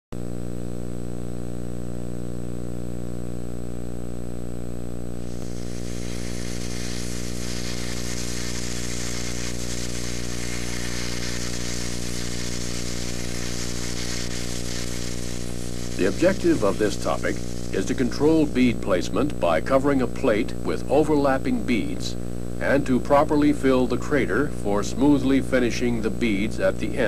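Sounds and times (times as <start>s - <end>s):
electrical hum: 0.2s - 27.0s
loud crackling hiss: 5.2s - 27.0s.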